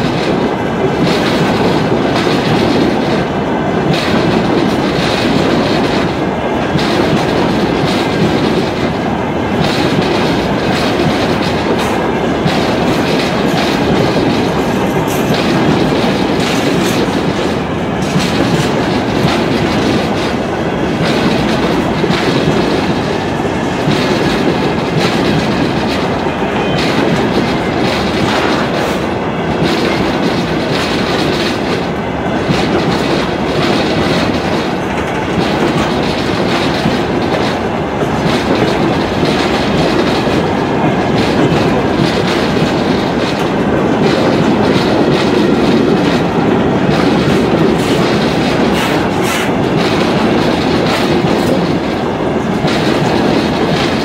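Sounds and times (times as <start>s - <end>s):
train wheels rumbling: 0.0s - 54.0s
wheels clacking over rail joints: 0.0s - 54.0s.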